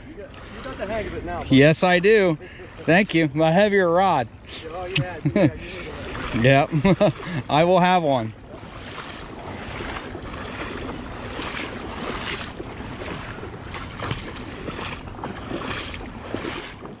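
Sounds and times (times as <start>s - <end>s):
rushing creek water: 0.0s - 17.0s.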